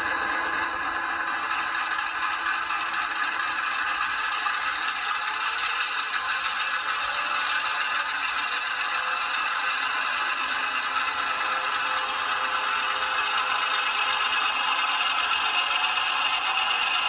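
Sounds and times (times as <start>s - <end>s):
diesel engine sound through small speaker: 0.0s - 17.0s.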